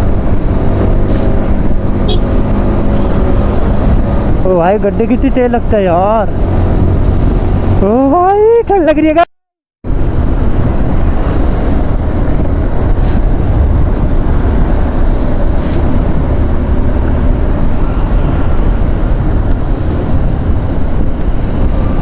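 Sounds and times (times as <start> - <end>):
wind buffeting microphone: 0.0 - 8.7, 9.8 - 22.0
motorcycle wind and road roar: 0.0 - 9.2, 9.8 - 22.0.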